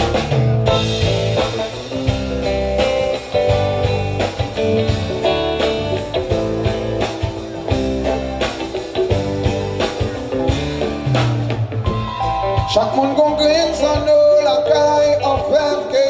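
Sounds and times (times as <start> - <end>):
guitar playing a run of notes: 0.0 - 15.2
bass: 0.0 - 16.0
steady drum beat: 0.0 - 16.0.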